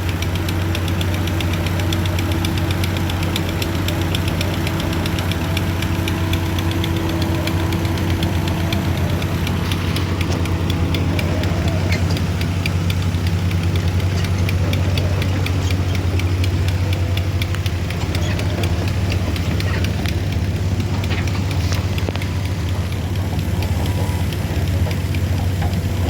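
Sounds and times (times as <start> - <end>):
engine running with clatter: 0.0 - 26.0.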